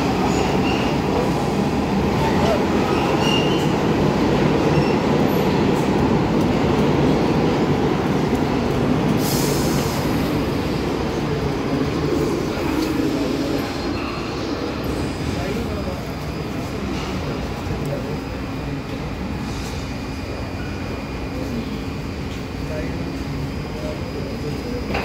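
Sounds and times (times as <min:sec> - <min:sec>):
subway train wheels rumbling on rails: 0:00.0 - 0:25.0.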